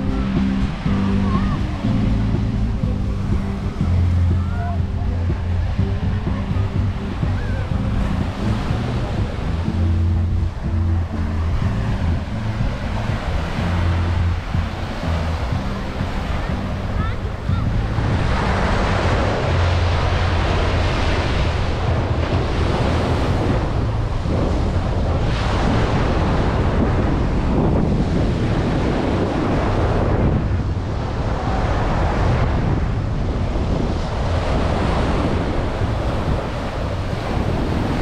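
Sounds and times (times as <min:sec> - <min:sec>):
ocean surf breaking: 0:00.0 - 0:38.0
wind buffeting microphone: 0:00.0 - 0:38.0.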